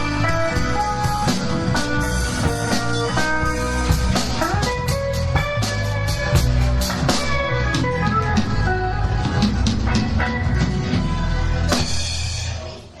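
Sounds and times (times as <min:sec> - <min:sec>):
live rock band playing: 0:00.0 - 0:12.8.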